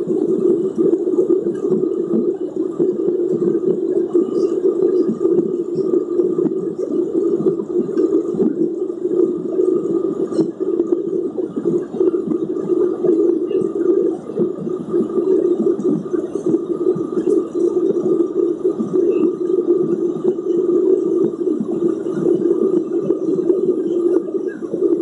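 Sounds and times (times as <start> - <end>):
faint steady whine: 0.0 - 25.0
muffled airplane cabin drone: 0.0 - 25.0.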